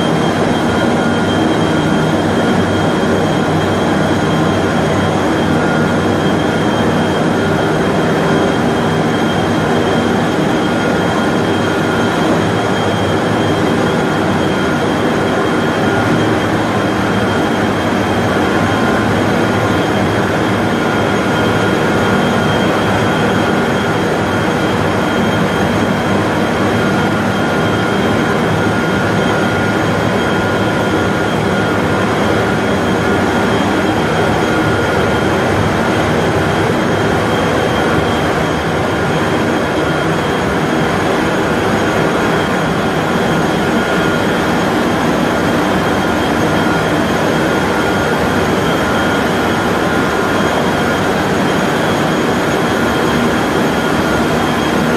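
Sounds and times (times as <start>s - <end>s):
steady industrial machine roar: 0.0s - 54.9s.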